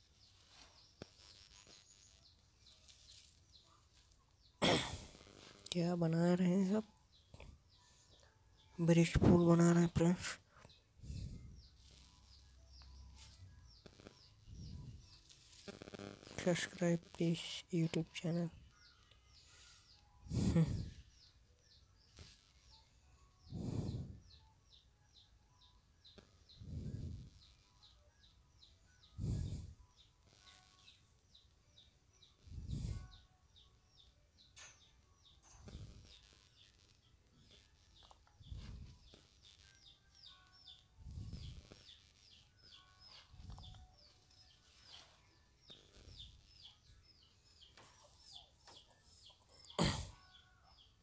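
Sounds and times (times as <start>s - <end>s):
small bird chirping: 0.0s - 51.0s.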